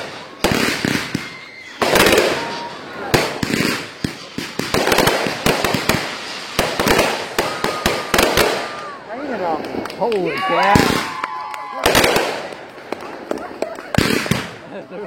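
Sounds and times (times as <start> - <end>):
fireworks bangs: 0.0 - 14.9
fireworks crackling: 0.0 - 15.0.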